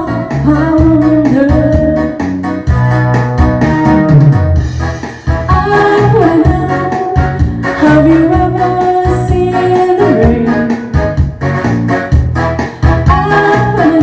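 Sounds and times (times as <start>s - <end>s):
pop-rock song with singing: 0.0s - 4.2s, 5.1s - 14.0s.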